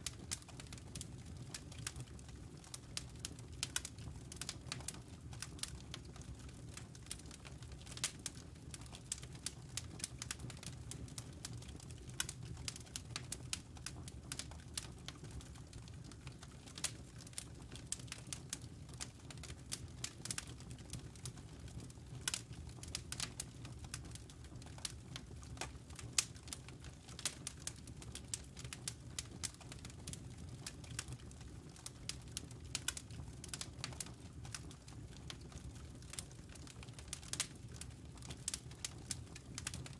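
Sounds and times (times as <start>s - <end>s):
burning wood crackling and popping: 0.0s - 39.9s
campfire flame rumble: 0.0s - 39.9s.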